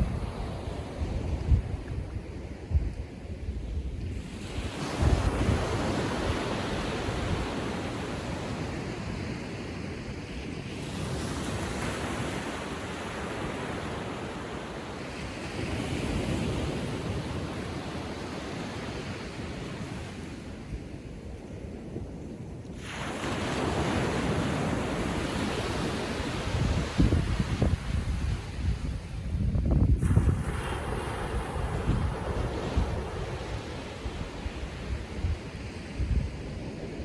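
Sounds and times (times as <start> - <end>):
small waves breaking on beach: 0.0 - 29.4, 30.0 - 37.0
wind on microphone: 0.0 - 37.0.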